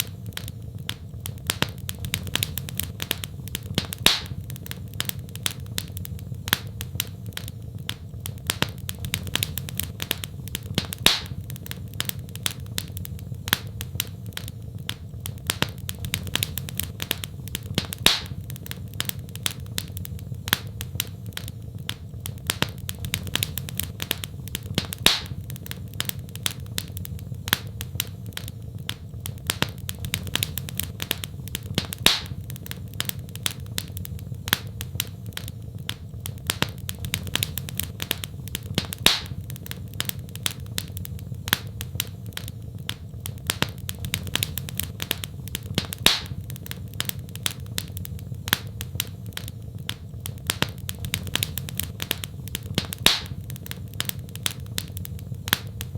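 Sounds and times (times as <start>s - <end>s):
fire popping: 0.0s - 55.9s
wood fire crackling: 0.0s - 55.9s.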